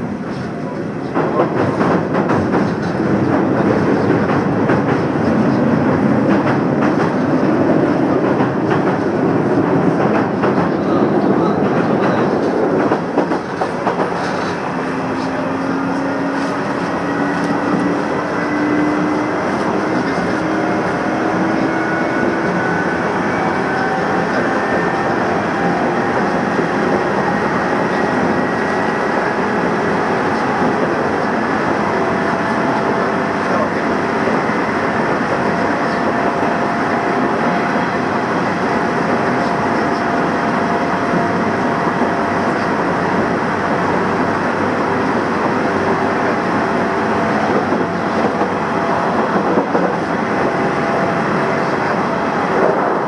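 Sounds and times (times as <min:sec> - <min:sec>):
train rolling noise: 0:00.0 - 0:53.0.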